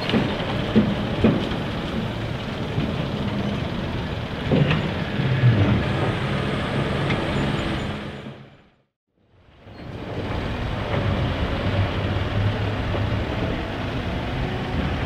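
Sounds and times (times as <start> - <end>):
truck engine running: 0.0 - 8.8, 9.8 - 15.0.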